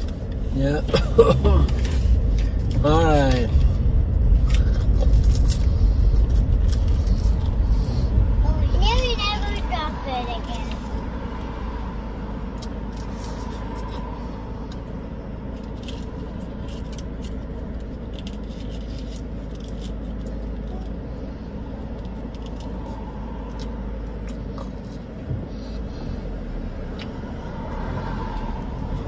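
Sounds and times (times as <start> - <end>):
car interior rumble: 0.0 - 29.0.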